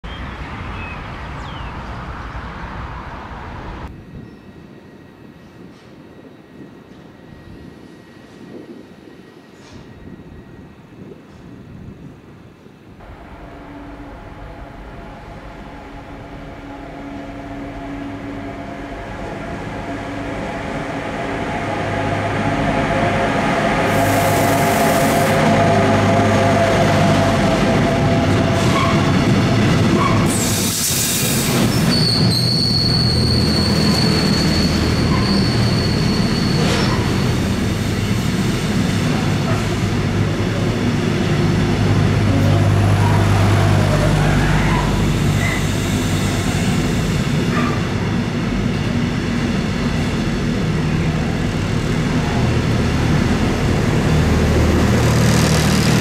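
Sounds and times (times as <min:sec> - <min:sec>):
freight train wheels rumbling on rail: 0:02.1 - 0:56.0
high steady train squeal: 0:03.4 - 0:56.0.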